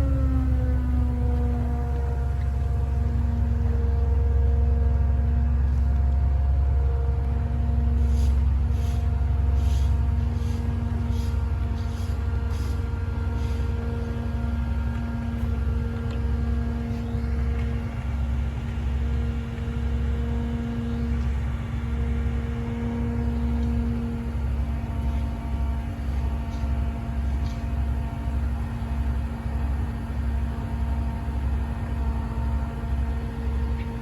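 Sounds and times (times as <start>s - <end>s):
diesel truck engine running: 0.0s - 34.0s
droning whine: 0.0s - 34.0s.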